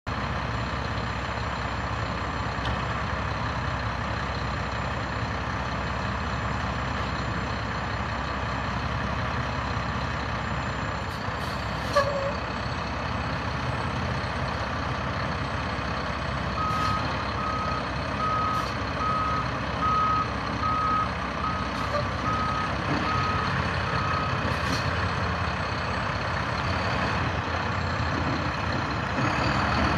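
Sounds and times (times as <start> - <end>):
diesel truck engine running: 0.1 - 29.9.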